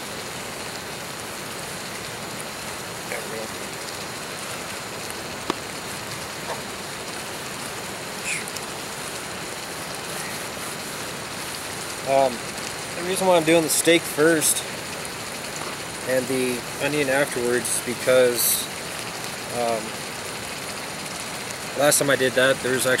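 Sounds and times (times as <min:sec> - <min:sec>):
steak sizzling in skillet: 0:00.0 - 0:21.8.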